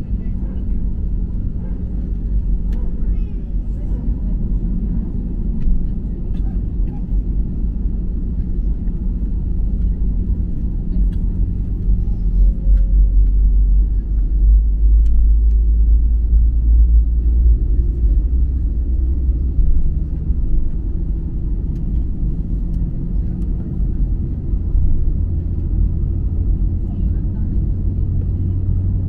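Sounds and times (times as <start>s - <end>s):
jet engine low rumble: 0.0s - 29.0s.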